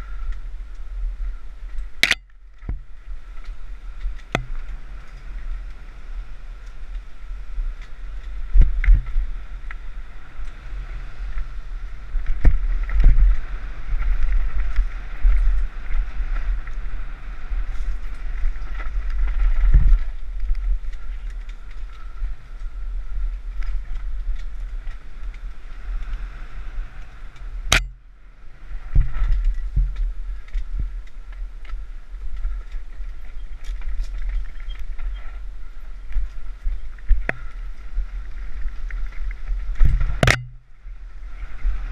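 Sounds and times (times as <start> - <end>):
bike tyre noise: 0.0 - 41.9
wind buffeting microphone: 0.0 - 41.9.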